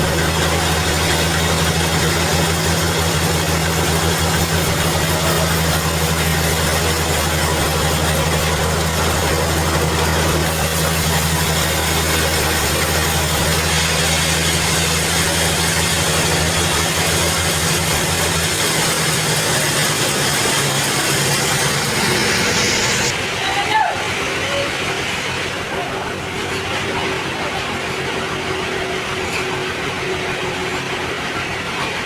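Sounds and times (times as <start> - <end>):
band saw machinery humming: 0.0 - 32.0.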